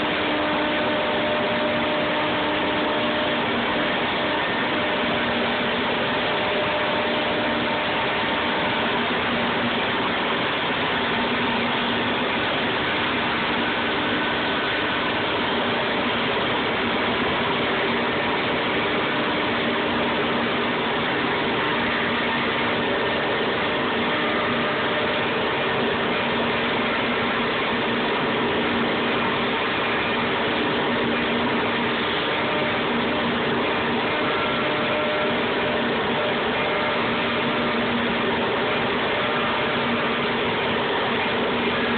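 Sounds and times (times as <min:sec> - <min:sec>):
machine whir: 0:00.0 - 0:41.9.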